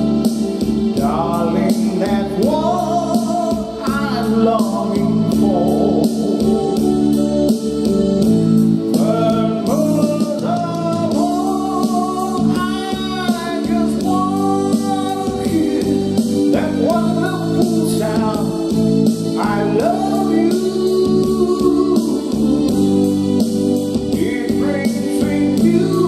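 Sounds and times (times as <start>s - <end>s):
man singing into microphone: 0.0s - 8.0s, 8.9s - 26.0s
backing music with guitar: 0.0s - 26.0s.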